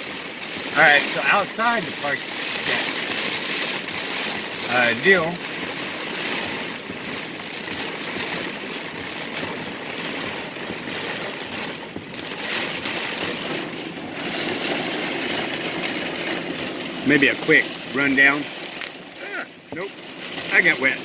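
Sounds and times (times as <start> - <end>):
heavy rain on a car: 0.0 - 21.0.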